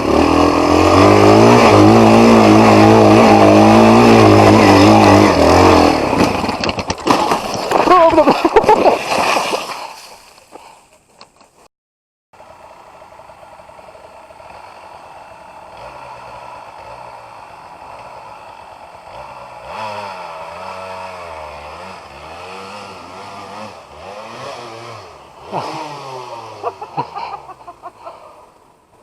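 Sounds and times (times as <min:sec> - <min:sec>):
off-road motorcycle engine revving: 0:00.0 - 0:08.7, 0:12.4 - 0:28.7.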